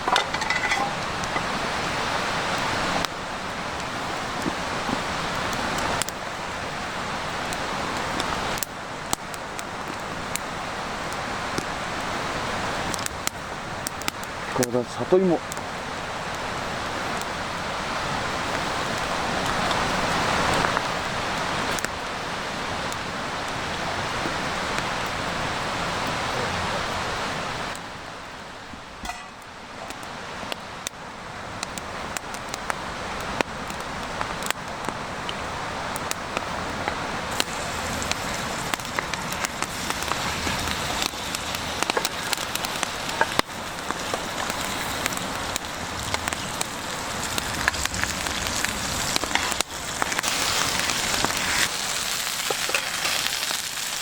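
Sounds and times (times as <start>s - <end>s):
steady hiss: 0.0s - 30.5s, 31.2s - 54.0s
campfire crackling and popping: 0.0s - 54.0s.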